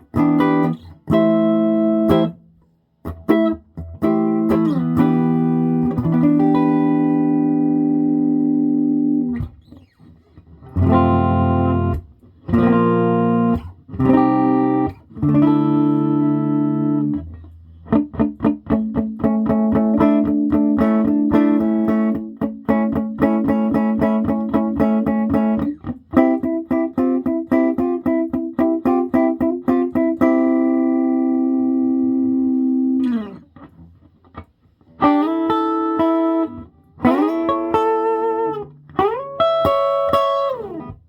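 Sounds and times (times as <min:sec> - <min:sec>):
electric guitar chords: 0:00.0 - 0:41.0
electric guitar picked notes: 0:00.0 - 0:41.0.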